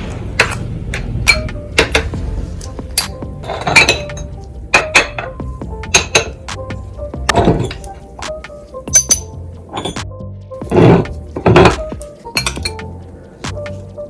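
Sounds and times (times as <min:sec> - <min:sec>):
hard objects clinking: 0:00.0 - 0:10.0, 0:10.6 - 0:14.0.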